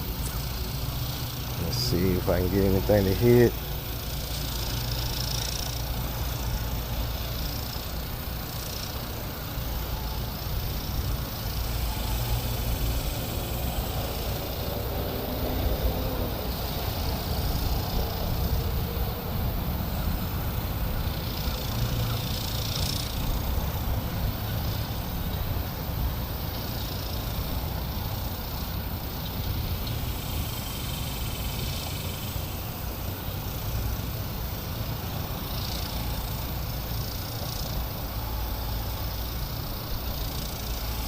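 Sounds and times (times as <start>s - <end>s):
faint hiss: 0.0s - 41.0s
low outdoor rumble: 0.0s - 41.0s.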